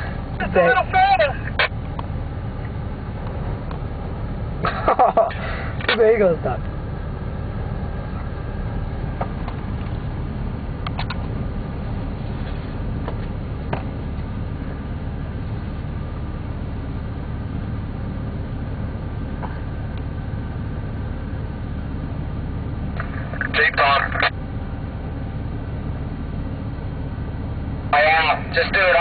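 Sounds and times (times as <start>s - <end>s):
engine low rumble: 0.0s - 29.0s.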